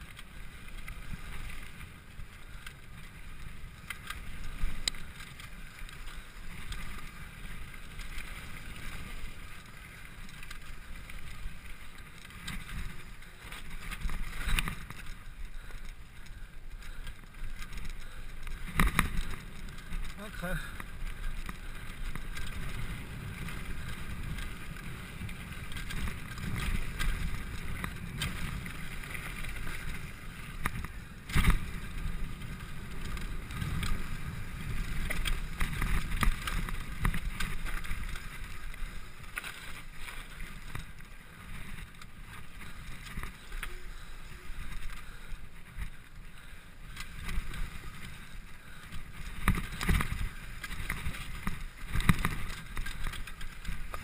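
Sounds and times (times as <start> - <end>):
bike knocking and rattling: 0.0 - 54.0
bike tyres rumbling on trail: 0.0 - 54.0.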